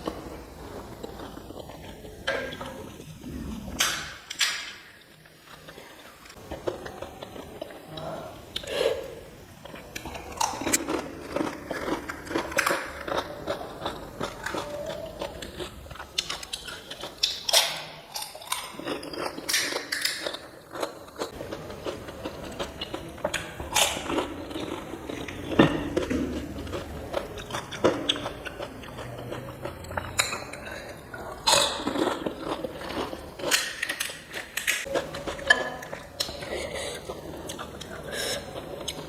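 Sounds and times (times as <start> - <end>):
wet chewing: 0.0 - 3.8, 5.0 - 39.0.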